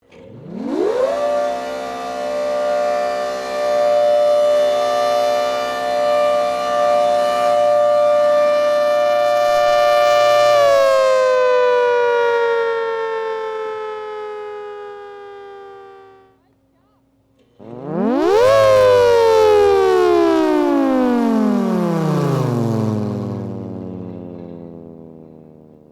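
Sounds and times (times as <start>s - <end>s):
outdoor warning siren wailing: 0.0s - 16.4s, 17.6s - 25.9s.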